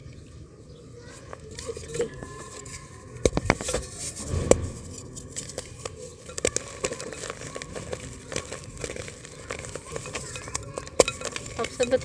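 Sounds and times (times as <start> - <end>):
dry clay crumbling by hand: 1.3 - 12.0.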